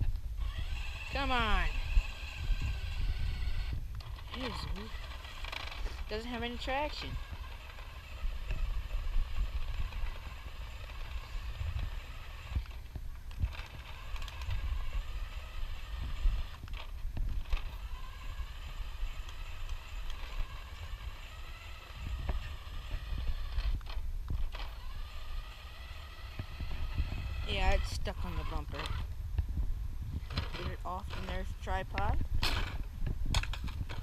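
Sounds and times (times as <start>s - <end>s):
electric motor whining: 0.0s - 29.2s, 30.1s - 34.0s.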